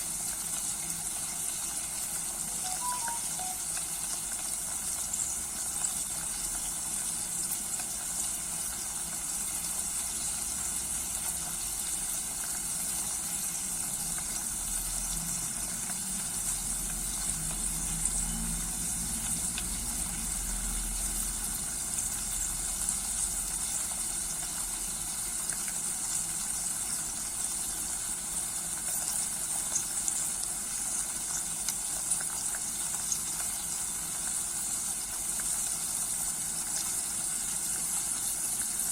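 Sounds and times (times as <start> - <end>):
herbs sizzling in oil: 0.0 - 38.9.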